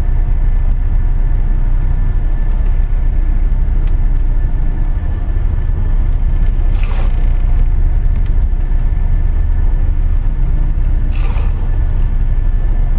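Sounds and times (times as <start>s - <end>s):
boat engines rumbling: 0.0s - 12.9s.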